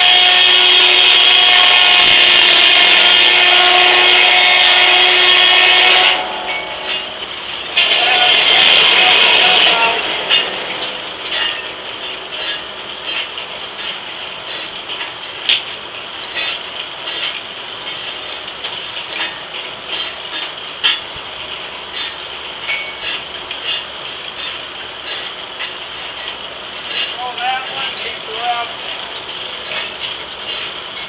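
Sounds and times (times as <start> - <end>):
sawmill running: 0.0 - 31.0.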